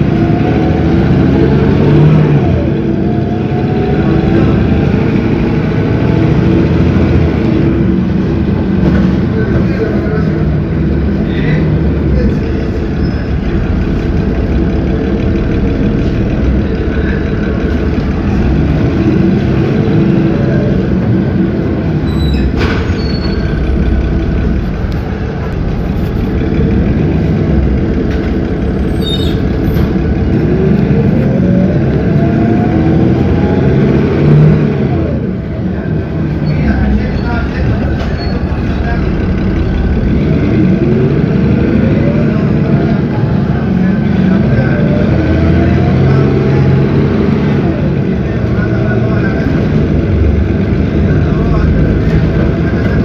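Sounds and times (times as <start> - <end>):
bus diesel engine rumbling: 0.0 - 53.0.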